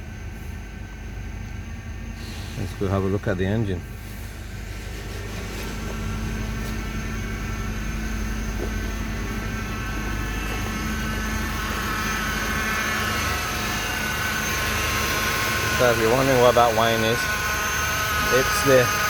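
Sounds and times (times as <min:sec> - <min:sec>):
car engine idling: 0:00.0 - 0:19.0
power steering pump whine: 0:00.0 - 0:19.0.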